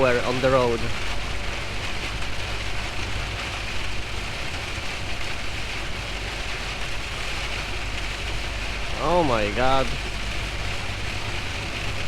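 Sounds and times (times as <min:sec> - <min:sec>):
rain and water spray hissing: 0:00.0 - 0:12.0
truck engine and tyres rumbling: 0:00.0 - 0:12.0.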